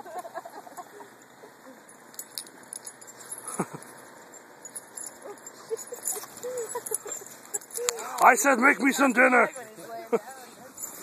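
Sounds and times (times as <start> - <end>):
collar tags jingling: 1.6 - 11.0.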